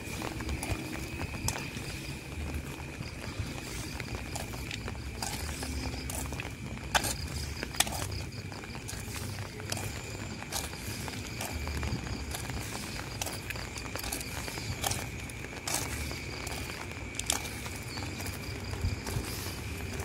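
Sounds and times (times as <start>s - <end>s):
footsteps on wet ground: 0.0s - 20.0s
rain falling: 0.0s - 20.0s
water drips: 0.0s - 20.0s.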